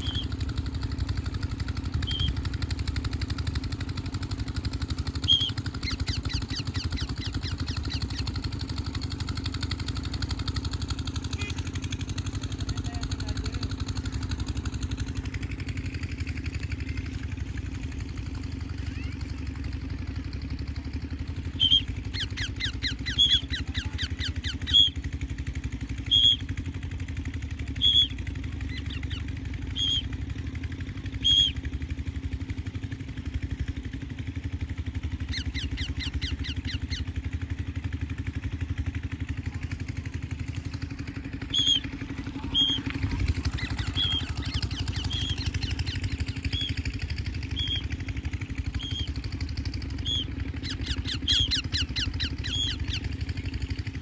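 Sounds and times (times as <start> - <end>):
quick chattering runs: 0.0 - 9.1, 11.2 - 37.5, 38.4 - 54.0
engine running: 0.0 - 54.0.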